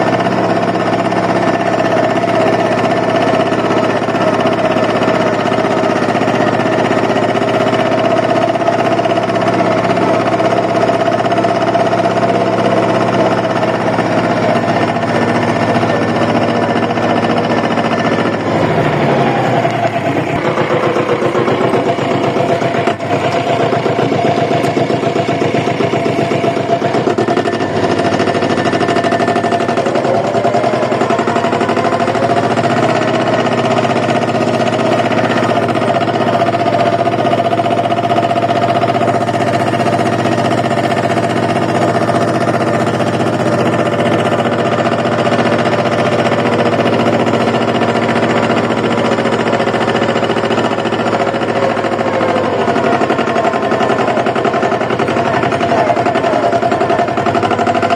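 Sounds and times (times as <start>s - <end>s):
tractor engine knocking: 0.0s - 57.9s.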